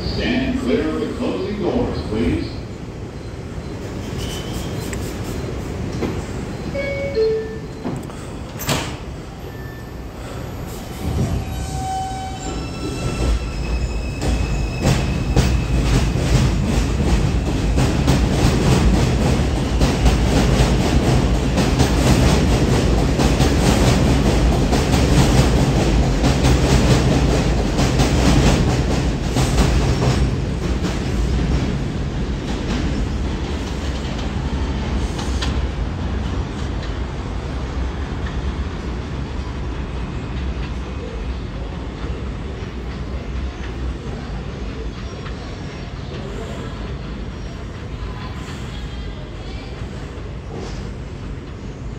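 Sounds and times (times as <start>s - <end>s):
train rumbling over rail joints: 7.7s - 51.9s.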